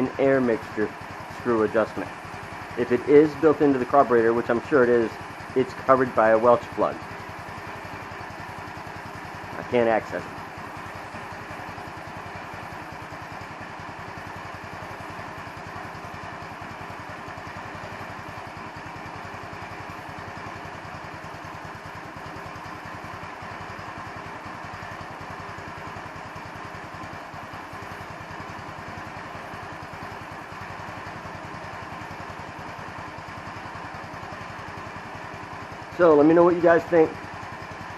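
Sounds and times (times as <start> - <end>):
scooter engine idling: 0.0 - 4.3, 5.2 - 37.9.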